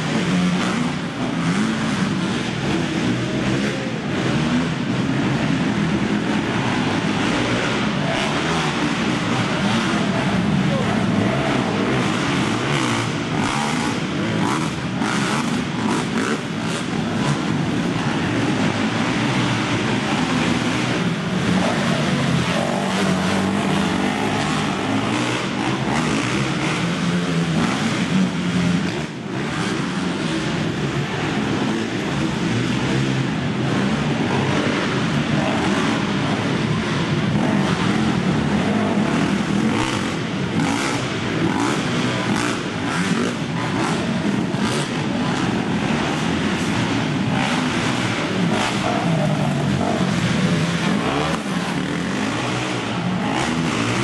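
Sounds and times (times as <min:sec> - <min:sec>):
racing quad engines revving: 0:00.0 - 0:54.0.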